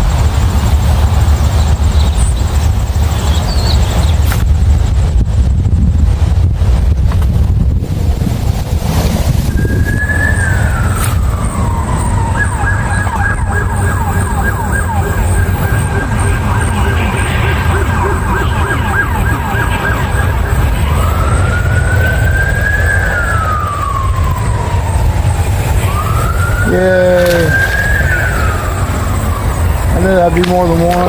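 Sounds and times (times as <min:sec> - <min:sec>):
emergency siren: 0:00.0 - 0:05.3, 0:07.7 - 0:31.0
wind rumble on microphone: 0:00.0 - 0:31.0.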